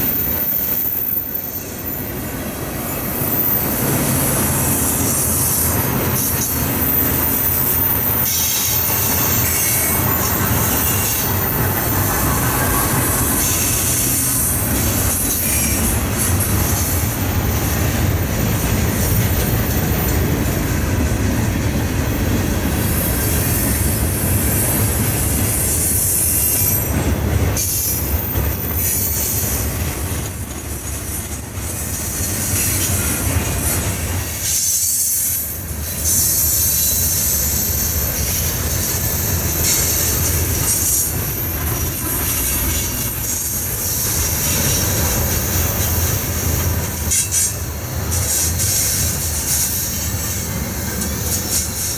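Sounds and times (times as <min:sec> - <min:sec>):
high wheel squeal: 0:00.0 - 0:17.7, 0:22.8 - 0:27.0, 0:27.6 - 0:29.9, 0:31.0 - 0:51.9
railroad cars rumbling past: 0:00.0 - 0:51.9.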